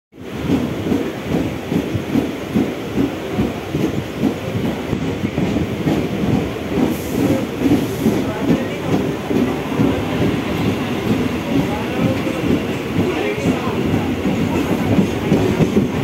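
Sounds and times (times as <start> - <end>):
train rumbling: 0.2 - 16.0.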